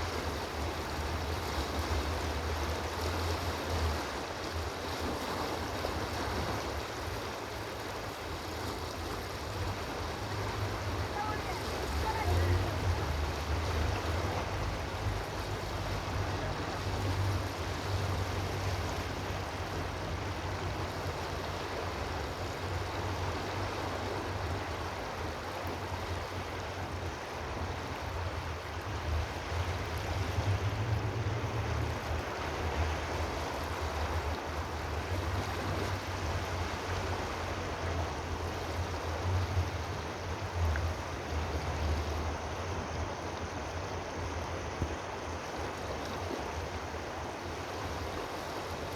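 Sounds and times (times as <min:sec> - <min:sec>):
running water: 0:00.0 - 0:48.9.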